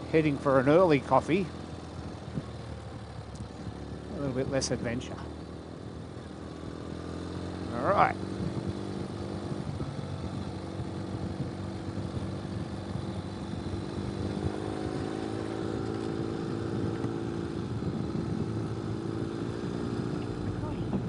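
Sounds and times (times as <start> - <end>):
motorcycle engine running: 0.0 - 21.0
tyres rumbling on dirt road: 0.0 - 21.0.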